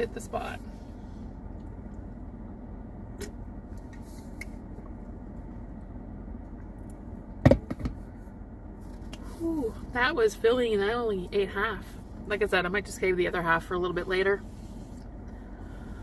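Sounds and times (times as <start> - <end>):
car air conditioning hum: 0.0 - 16.0.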